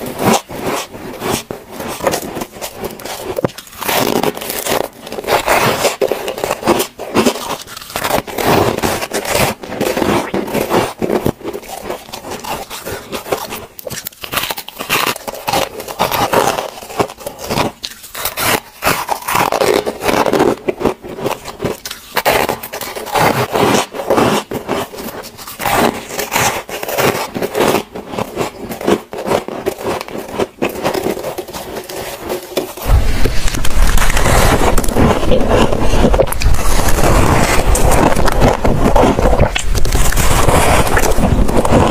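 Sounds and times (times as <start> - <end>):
chewing crunchy frost: 0.1 - 41.9.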